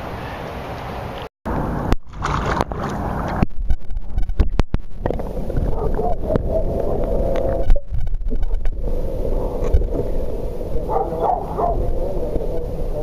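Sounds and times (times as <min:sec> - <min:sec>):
underwater rumbling wash: 0:00.9 - 0:13.0.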